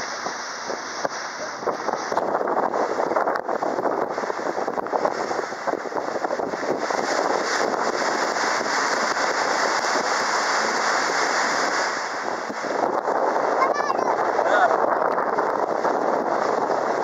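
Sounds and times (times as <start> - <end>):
boat motor and water rushing: 0.0 - 17.0
wind on microphone: 0.0 - 17.0.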